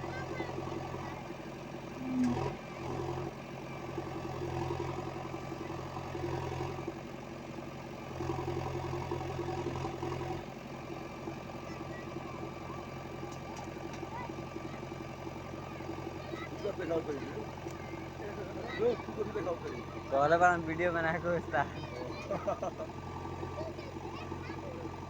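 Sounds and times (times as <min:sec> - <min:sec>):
heavy machine engine droning: 0:00.0 - 0:25.0.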